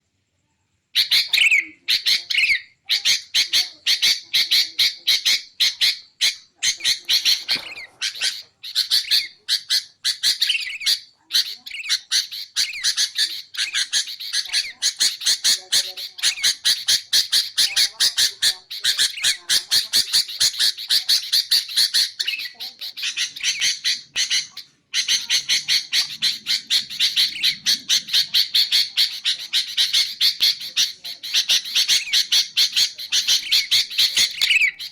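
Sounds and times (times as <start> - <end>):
bulbul calling and chattering: 1.0 - 34.9.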